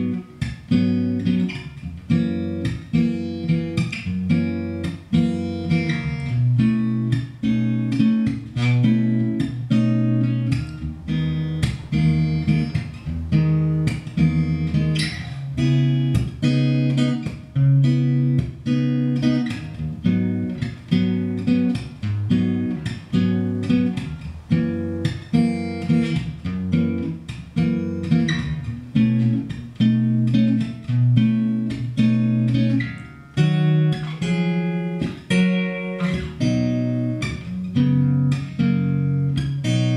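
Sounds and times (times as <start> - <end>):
fingerpicked acoustic guitar: 0.0 - 39.9.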